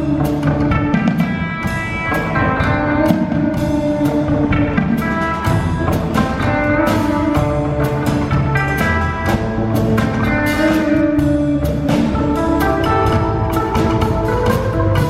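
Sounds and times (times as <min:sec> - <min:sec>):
bass guitar: 0:00.0 - 0:15.0
drum and cymbal hits: 0:00.0 - 0:15.0
electric guitar melody: 0:00.0 - 0:15.0.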